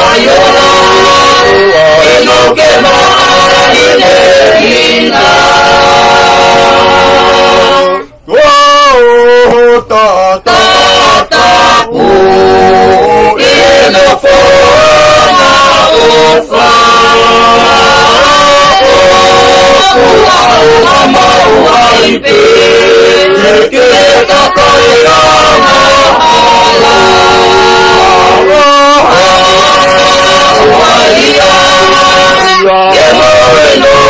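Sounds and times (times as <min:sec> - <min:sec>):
group singing a hymn: 0:00.0 - 0:34.0.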